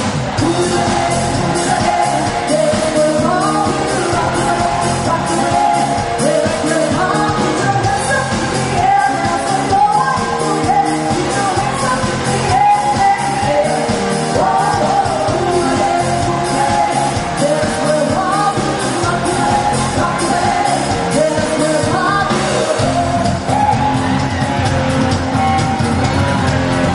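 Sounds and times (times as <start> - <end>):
drums keeping steady beat: 0.0 - 26.9
lead singer singing: 0.0 - 26.9
rock band playing: 0.0 - 26.9.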